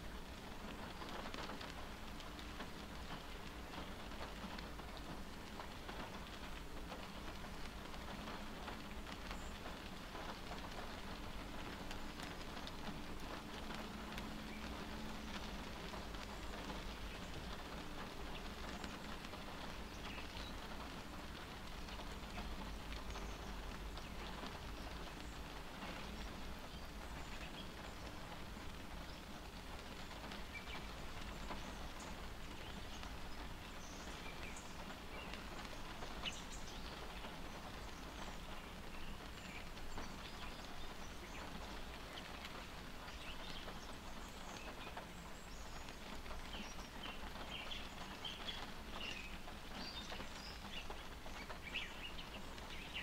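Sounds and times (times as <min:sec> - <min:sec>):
rain pattering on windshield: 0:00.0 - 0:53.0
raindrop ticks: 0:00.0 - 0:53.0.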